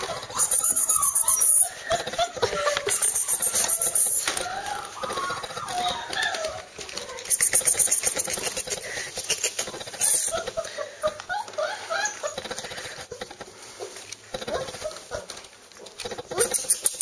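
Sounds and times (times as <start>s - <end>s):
puppies whimpering: 0.0s - 13.5s, 14.3s - 15.5s
rustling: 0.0s - 17.0s.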